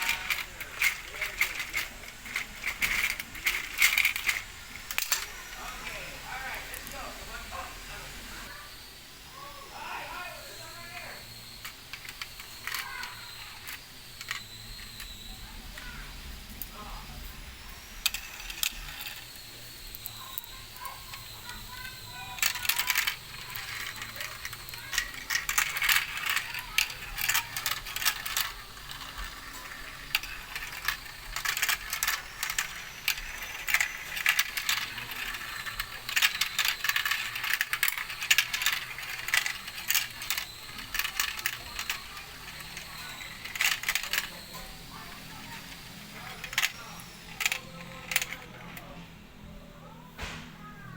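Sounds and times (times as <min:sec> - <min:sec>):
marbles rolling and clattering: 0:00.0 - 0:08.6, 0:09.8 - 0:49.1.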